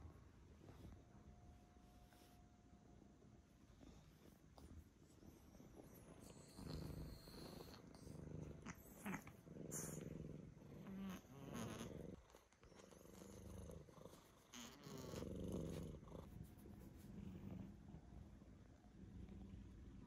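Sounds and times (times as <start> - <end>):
cat purring: 3.6 - 20.0.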